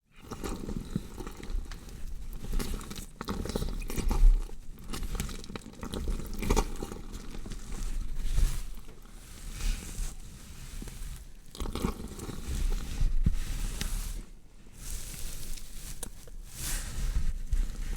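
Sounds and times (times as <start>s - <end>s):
wet crunching and squelching flesh: 0.2s - 14.2s, 14.8s - 17.9s.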